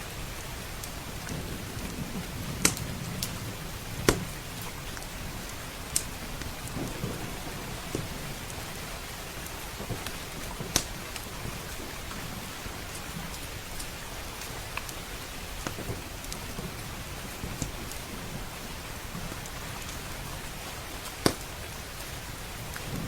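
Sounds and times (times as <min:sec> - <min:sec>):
rain drumming on windows and roof: 0:00.0 - 0:23.0
thunder rumbling: 0:00.0 - 0:23.0
wood fire crackling: 0:00.0 - 0:23.0.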